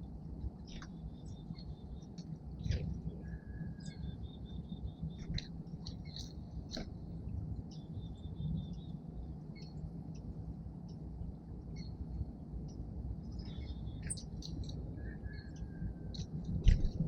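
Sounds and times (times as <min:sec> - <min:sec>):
low background rumble: 0:00.0 - 0:17.0
songbirds chipping and trilling: 0:00.0 - 0:17.0.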